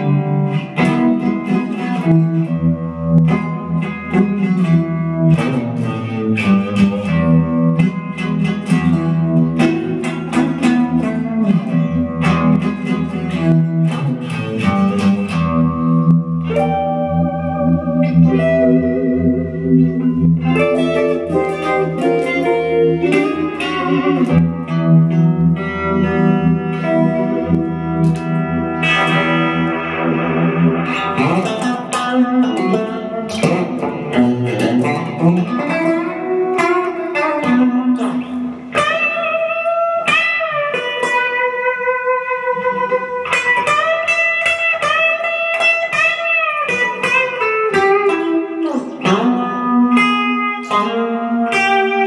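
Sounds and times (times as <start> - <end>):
electric guitar playing: 0.0 - 52.0.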